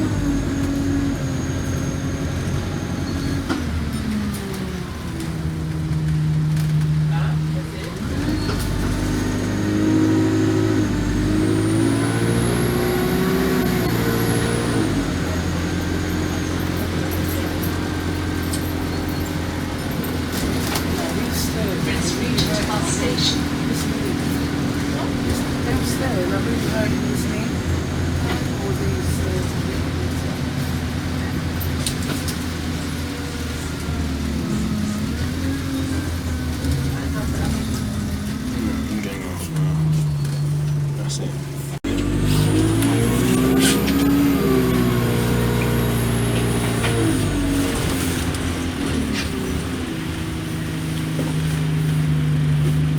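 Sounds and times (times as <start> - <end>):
bus diesel engine accelerating: 0.0 - 52.9.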